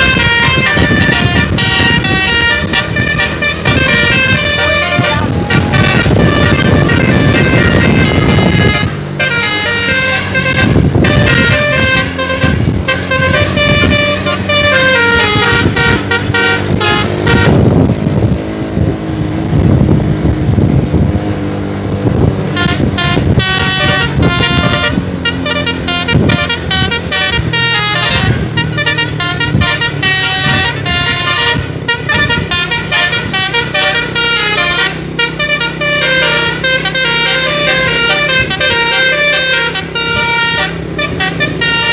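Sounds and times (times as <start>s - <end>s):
musical air horn playing a tune: 0.0s - 18.1s, 22.4s - 41.9s
bus engine running: 0.0s - 41.9s.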